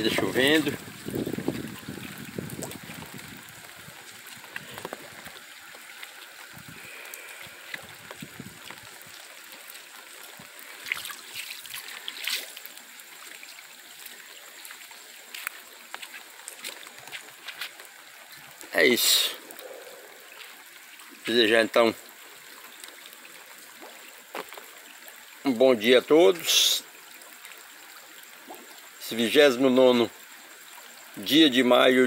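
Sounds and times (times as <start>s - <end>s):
light rain hissing: 0.0s - 32.0s
water trickling: 0.0s - 32.0s
sharp drip-like clicks: 0.4s - 32.0s.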